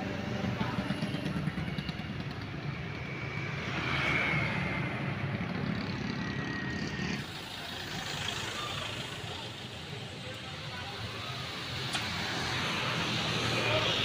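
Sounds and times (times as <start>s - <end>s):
motorcycles passing by: 0.0s - 14.0s.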